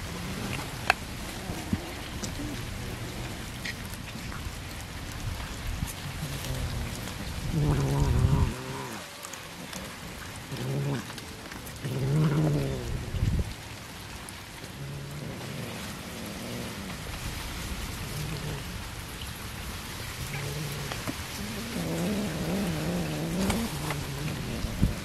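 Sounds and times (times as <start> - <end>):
cats growling: 0.0 - 13.6, 14.3 - 25.0
cats chewing raw fish: 0.0 - 25.0.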